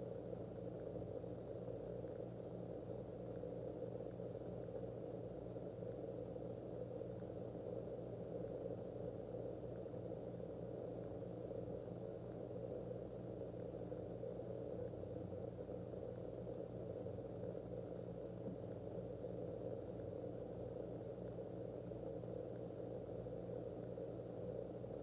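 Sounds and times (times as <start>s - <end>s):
faint hiss: 0.0s - 25.0s.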